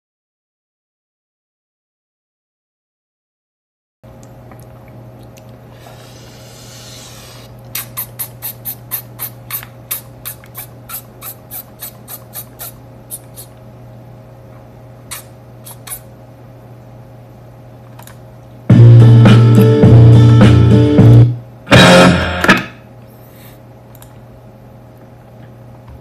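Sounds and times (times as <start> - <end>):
steady low hum: 4.1 - 26.0.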